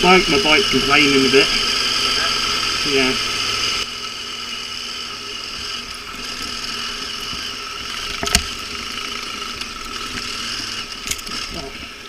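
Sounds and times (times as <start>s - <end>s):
motorcycle engine idling: 0.0s - 11.7s.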